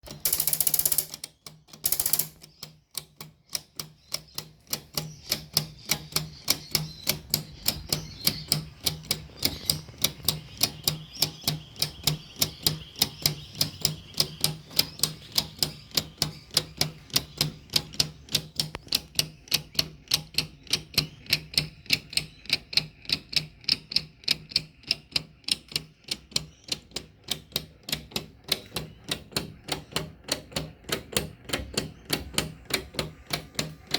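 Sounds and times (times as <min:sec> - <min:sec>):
plastic escapement ticking: 0:00.0 - 0:33.9.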